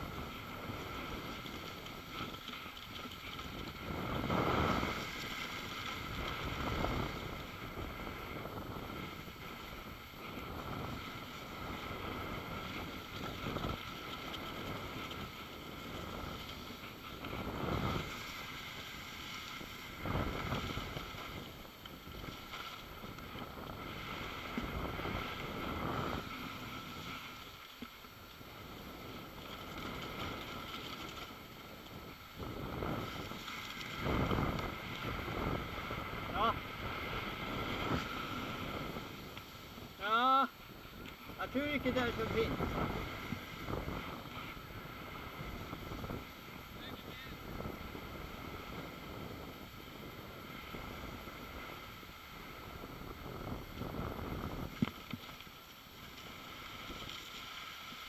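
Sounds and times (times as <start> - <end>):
skis sliding on snow: 0.0 - 58.0
wind on microphone: 3.2 - 27.4, 28.5 - 40.1, 40.9 - 55.3.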